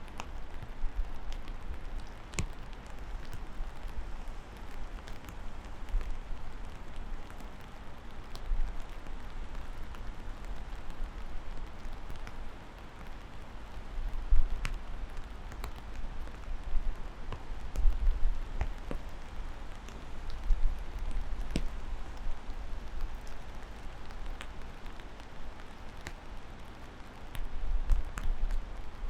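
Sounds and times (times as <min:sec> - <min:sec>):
raindrops striking close by: 0:00.0 - 0:29.0
steady rain hiss: 0:00.0 - 0:29.0.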